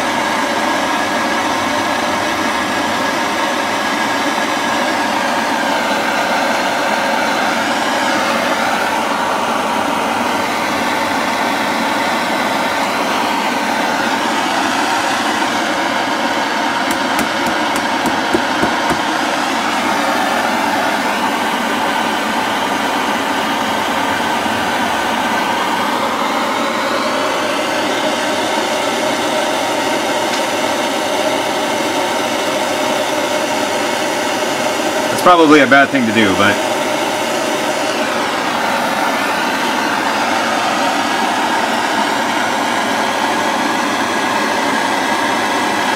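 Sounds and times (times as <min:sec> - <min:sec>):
blow torch rushing hiss: 0:00.0 - 0:45.9.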